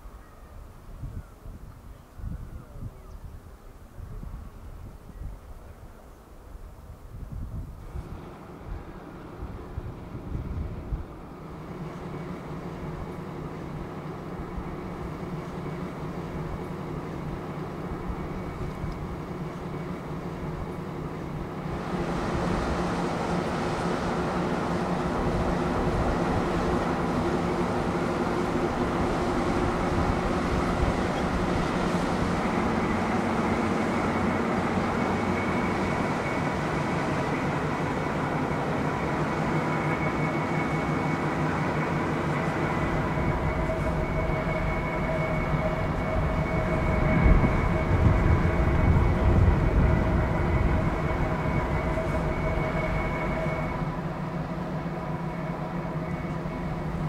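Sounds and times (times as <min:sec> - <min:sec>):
marine diesel engines droning: 0:00.0 - 0:57.0
low uneven buffeting: 0:07.7 - 0:57.0.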